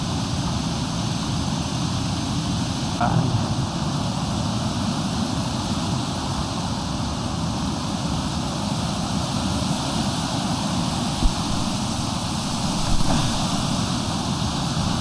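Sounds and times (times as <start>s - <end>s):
waterfall rushing: 2.7s - 15.0s.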